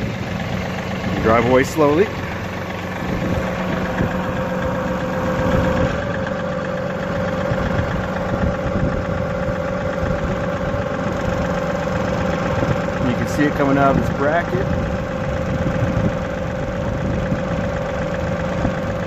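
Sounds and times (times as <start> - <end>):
hydraulic whine: 0.0 - 19.0
tractor diesel engine running: 0.0 - 19.0.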